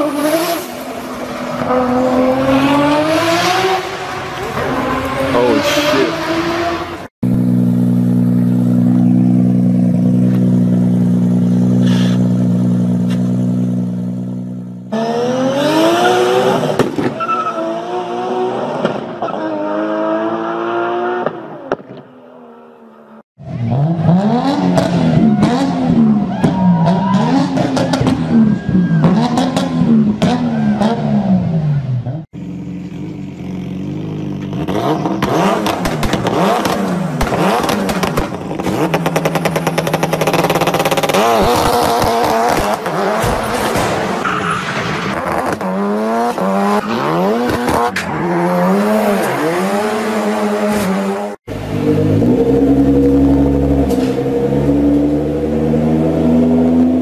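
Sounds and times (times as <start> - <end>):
car engine revving: 0.0 - 22.2, 23.4 - 57.0.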